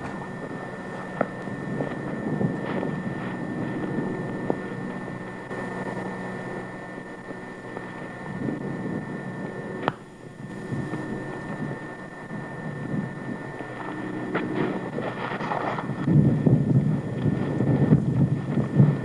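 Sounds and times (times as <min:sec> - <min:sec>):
faint steady high whine: 0:00.0 - 0:19.0
wind buffeting microphone: 0:00.0 - 0:19.0.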